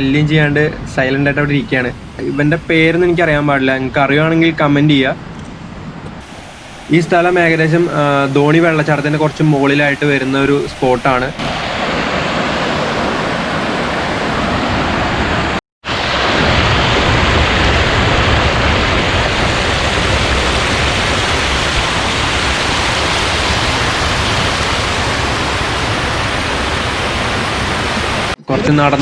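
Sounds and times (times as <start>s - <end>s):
water rushing in a steady roar: 0.4s - 28.4s.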